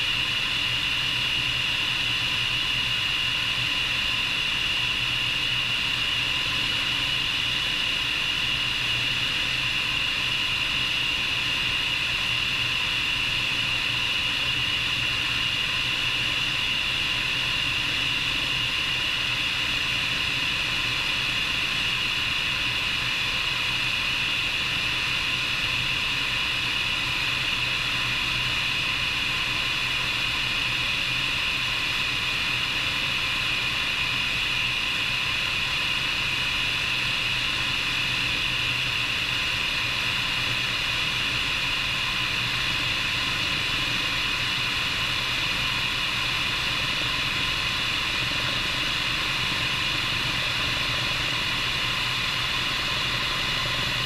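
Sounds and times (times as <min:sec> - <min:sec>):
helicopter rotor drone: 0:00.0 - 0:54.0
turbine whine: 0:00.0 - 0:54.0.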